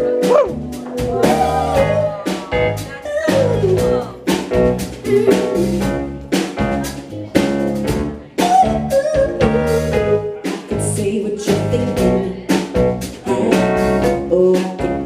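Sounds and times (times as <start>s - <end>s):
live band playing jazzy pop: 0.0s - 15.0s.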